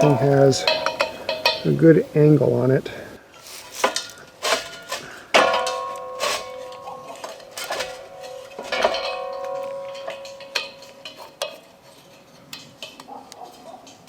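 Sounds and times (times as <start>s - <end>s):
metal clinks and knocks: 0.0s - 1.8s, 3.4s - 14.0s
metal ringing tone: 0.0s - 2.7s, 3.4s - 12.2s.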